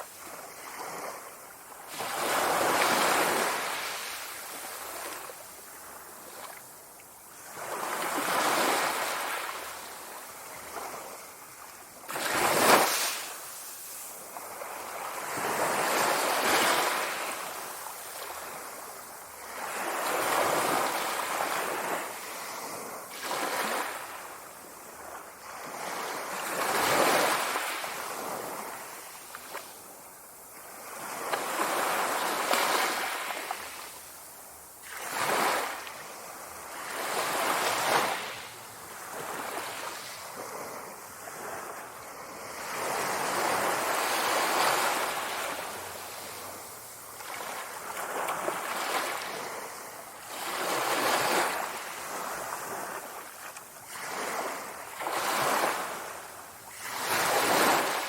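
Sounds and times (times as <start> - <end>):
sea waves washing in: 0.0 - 58.0.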